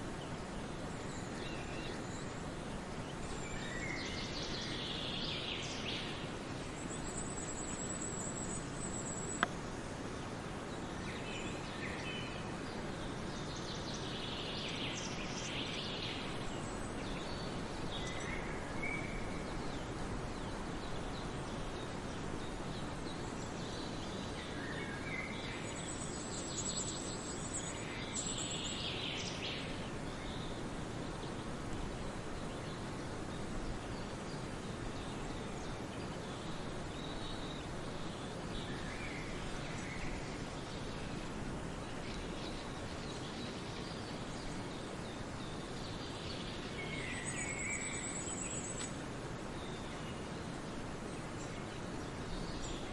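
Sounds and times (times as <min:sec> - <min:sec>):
background hiss: 0:00.0 - 0:52.9
songbirds singing: 0:00.0 - 0:52.9.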